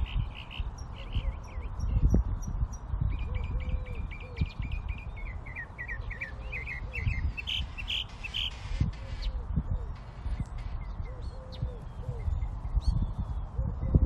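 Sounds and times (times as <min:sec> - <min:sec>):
songbirds chirping: 0:00.0 - 0:14.0
steady low rumble: 0:00.0 - 0:14.0.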